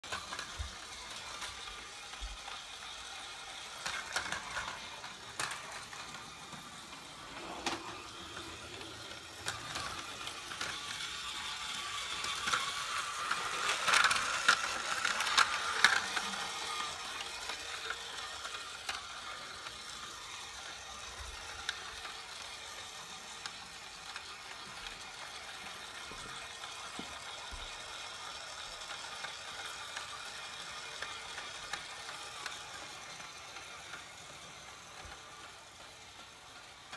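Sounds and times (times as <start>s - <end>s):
toy train motor whirring: 0.0s - 36.9s
train clicking on plastic track: 0.0s - 36.9s.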